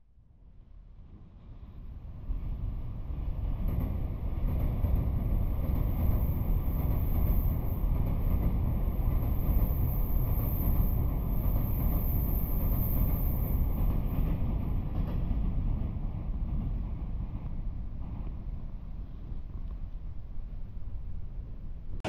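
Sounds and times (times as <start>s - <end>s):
electric train rumbling on track: 0.2s - 22.0s.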